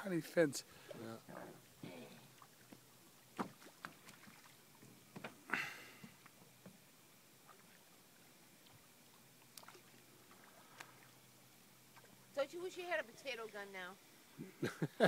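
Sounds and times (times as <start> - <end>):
faint water splashes: 0.0 - 14.8.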